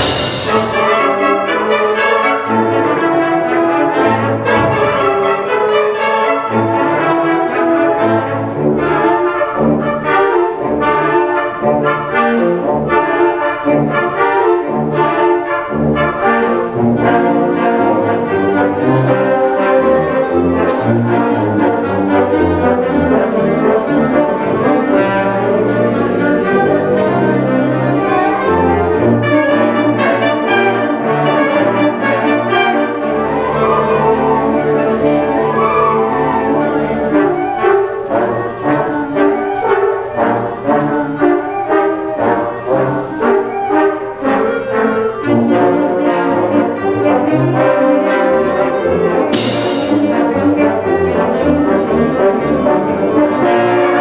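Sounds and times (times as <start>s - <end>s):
brass instruments: 0.0s - 54.0s
concert band playing: 0.0s - 54.0s.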